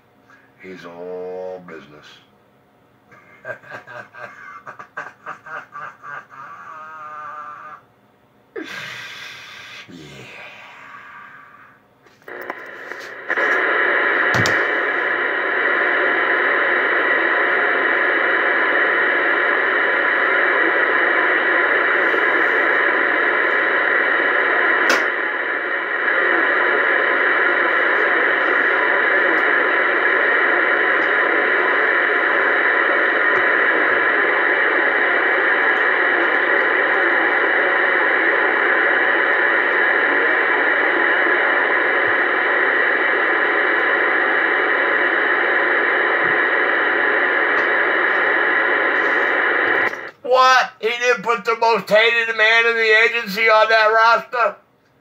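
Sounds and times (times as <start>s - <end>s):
radio static hiss: 0.0s - 2.3s, 3.0s - 7.9s, 8.6s - 54.7s.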